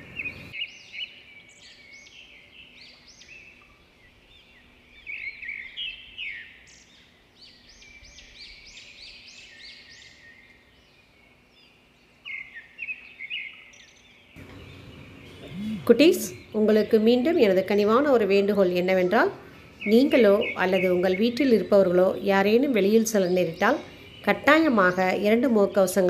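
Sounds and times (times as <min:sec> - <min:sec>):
faint steady hum: 0:00.0 - 0:26.0
small birds chirping: 0:00.0 - 0:26.0.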